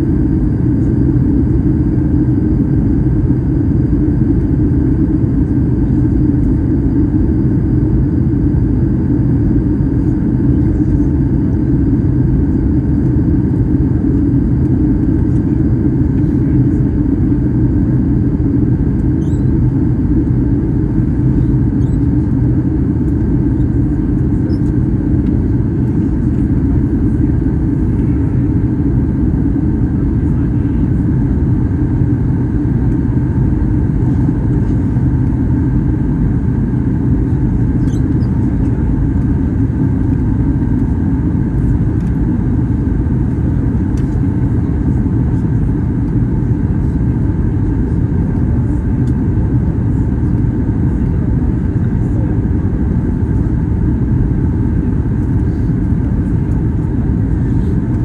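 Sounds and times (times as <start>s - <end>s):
faint steady hum: 0.0s - 58.0s
jet engines rumbling in cabin: 0.0s - 58.0s.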